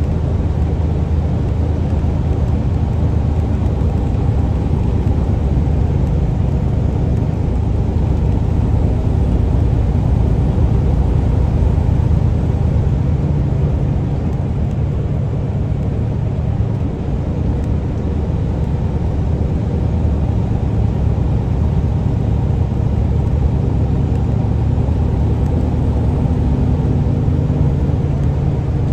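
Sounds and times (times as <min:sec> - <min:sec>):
truck engine and tyre drone: 0:00.0 - 0:28.9.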